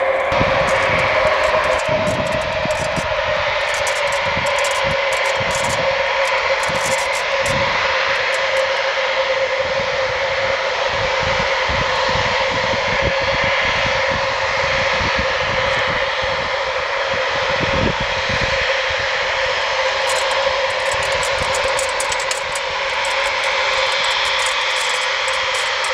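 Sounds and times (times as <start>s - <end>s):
jet engines whining at taxi: 0.0s - 25.9s.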